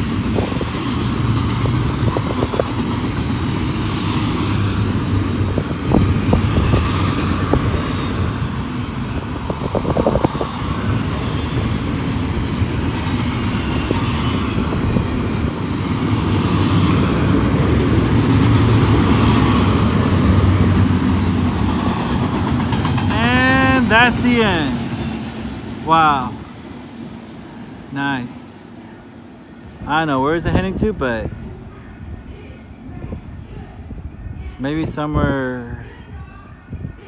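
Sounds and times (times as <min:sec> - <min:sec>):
steel wheels rumbling on rail: 0:00.0 - 0:37.0.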